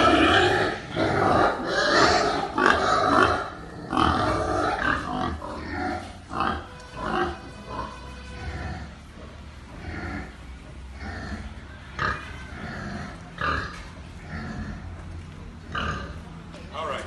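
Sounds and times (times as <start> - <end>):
pigs grunting: 0.0 - 15.0, 15.6 - 16.2.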